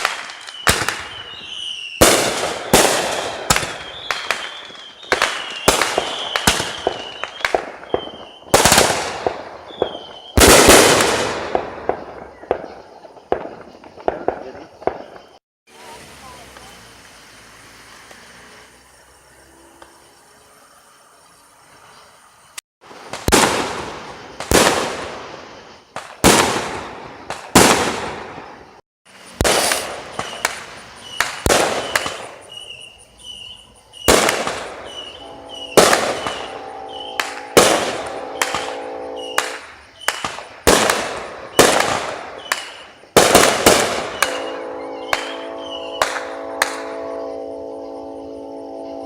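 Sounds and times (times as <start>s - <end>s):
fireworks bangs with echo: 0.0s - 16.7s, 22.8s - 32.9s, 34.0s - 47.2s.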